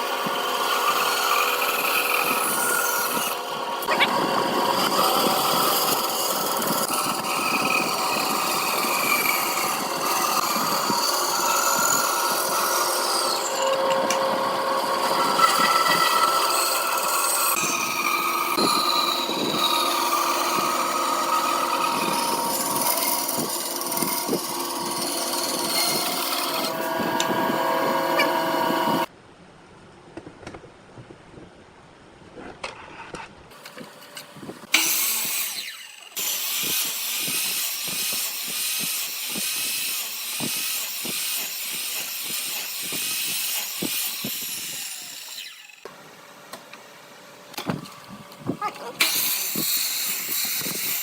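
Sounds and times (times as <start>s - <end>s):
power tool rasping wood: 0.0s - 29.1s, 34.6s - 45.9s, 47.7s - 51.0s.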